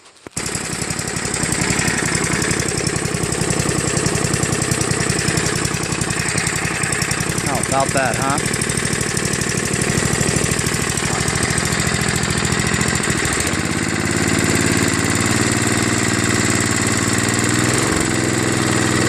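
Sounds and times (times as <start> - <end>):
snowblower engine running: 0.3 - 19.0.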